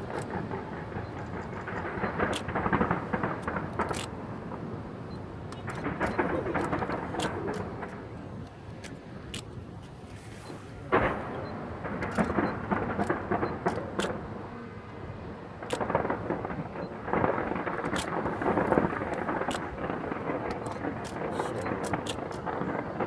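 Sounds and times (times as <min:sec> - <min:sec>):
fireworks booming and crackling: 0:00.0 - 0:23.0.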